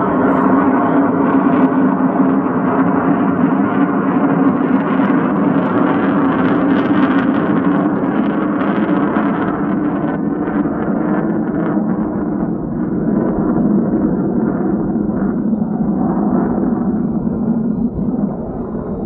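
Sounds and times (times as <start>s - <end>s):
jet engine running: 0.0s - 19.0s.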